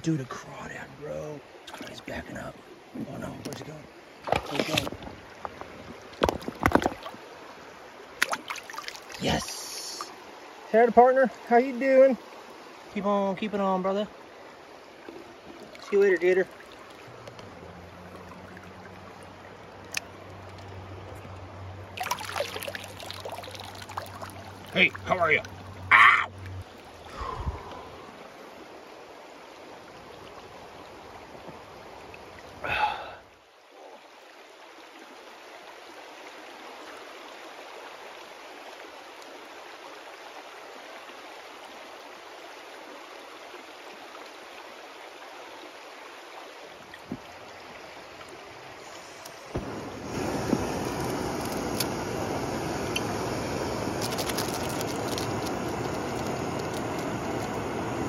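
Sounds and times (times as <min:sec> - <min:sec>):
creek water rushing over stones: 0:00.0 - 0:58.0.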